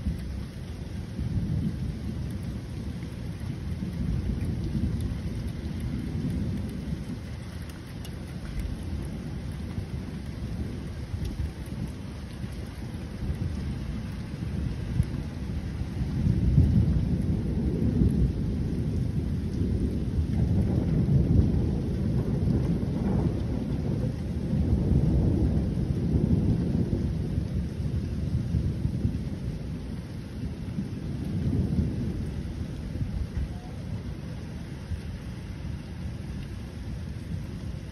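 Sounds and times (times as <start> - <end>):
thunder rumbling: 0.0 - 37.9.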